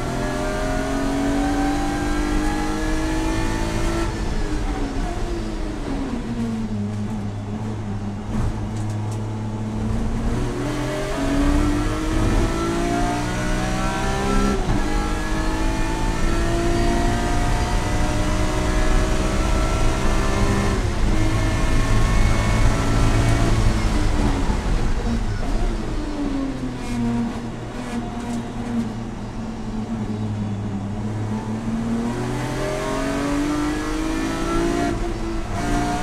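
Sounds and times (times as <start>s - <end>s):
race car engine accelerating: 0.0s - 29.2s, 29.9s - 36.0s.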